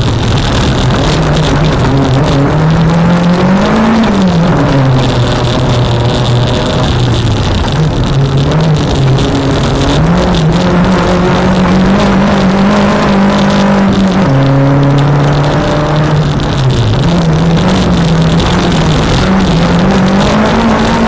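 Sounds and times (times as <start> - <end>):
car engine under full throttle: 0.0 - 21.0.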